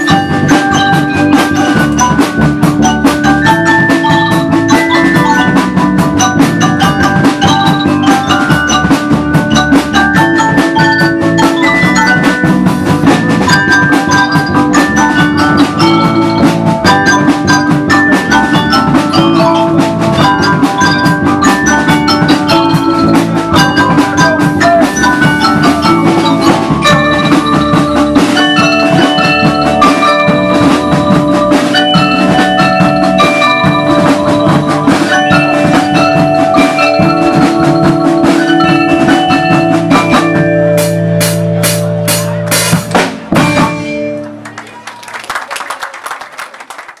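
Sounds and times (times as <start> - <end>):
steady drum beat: 0.0 - 44.5
marimba and xylophone runs: 0.0 - 44.8.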